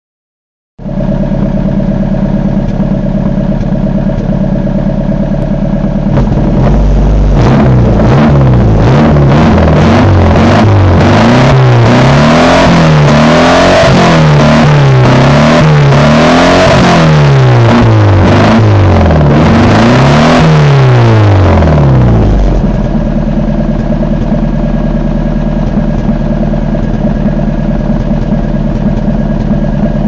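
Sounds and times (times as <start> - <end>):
car engine idling and revving: 0.8 - 30.0.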